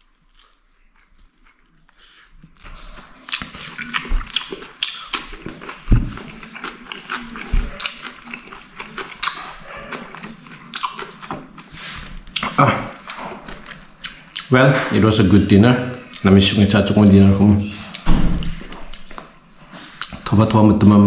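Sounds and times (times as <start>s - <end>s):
wet chewing and mouth smacks: 0.0s - 14.9s, 15.9s - 16.3s, 17.8s - 20.3s.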